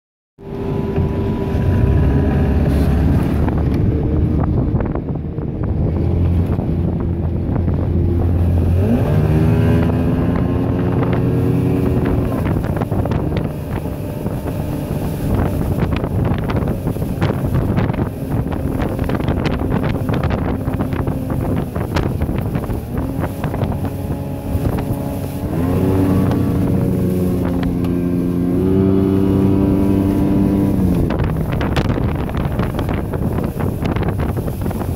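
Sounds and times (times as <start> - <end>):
outboard motor revving: 0.4 - 34.9
wind buffeting microphone: 0.4 - 34.9.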